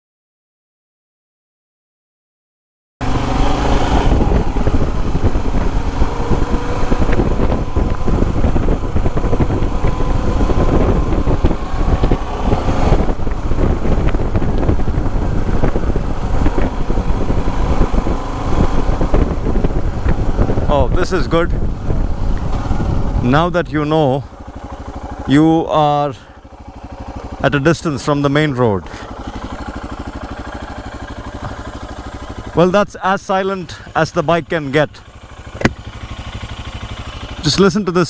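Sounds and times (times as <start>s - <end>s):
motorcycle engine running: 3.0s - 38.0s.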